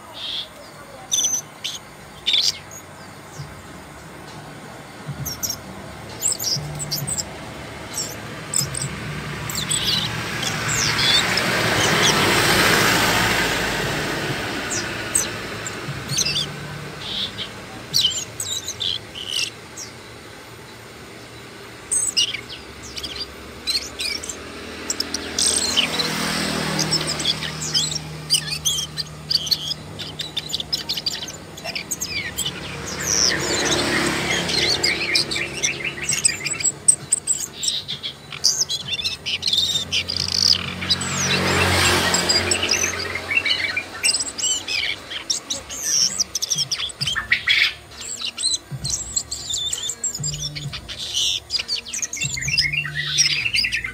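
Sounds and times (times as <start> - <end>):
bird chirping and twittering: 0.0 - 53.9
broad rushing noise: 0.0 - 53.9.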